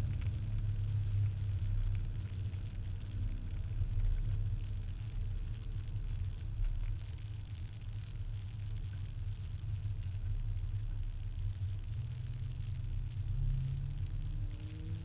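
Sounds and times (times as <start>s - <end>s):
car engine rumble from cabin: 0.0s - 15.0s.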